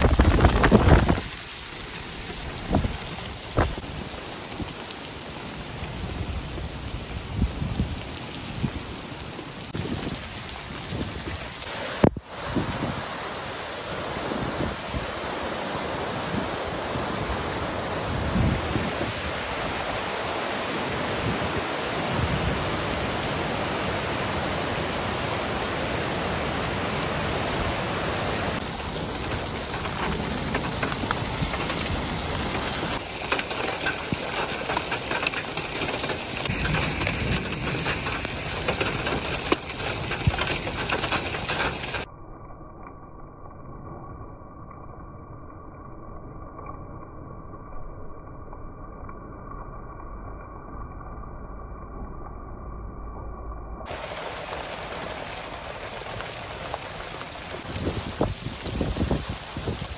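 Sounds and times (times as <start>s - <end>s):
water rushing down rocky gully: 0.0s - 42.1s, 53.9s - 59.9s.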